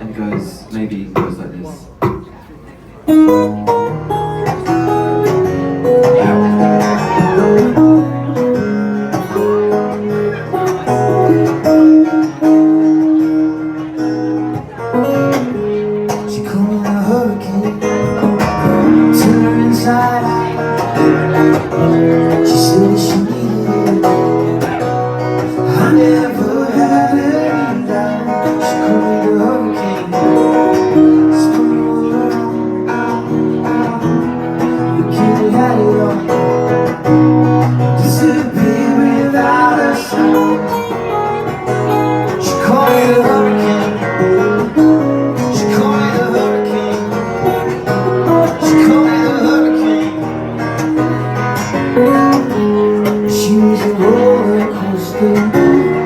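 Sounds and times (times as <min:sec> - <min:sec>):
acoustic guitar strumming: 0:00.0 - 0:56.0
man singing: 0:03.1 - 0:14.0, 0:14.6 - 0:56.0.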